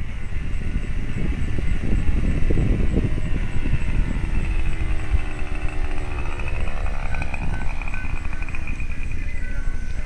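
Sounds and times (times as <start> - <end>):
low rumble: 0.0 - 10.0
model airplane engine whining: 0.0 - 10.0.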